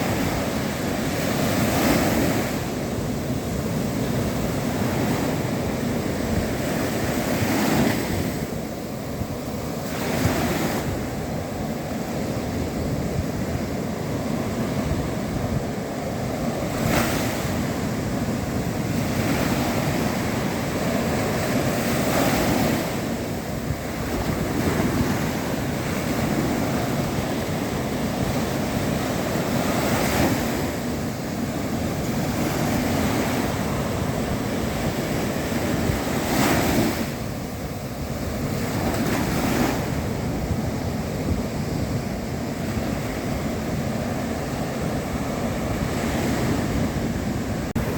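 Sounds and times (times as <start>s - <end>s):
surf washing on shore: 0.0s - 47.9s
waves crashing: 0.0s - 47.9s.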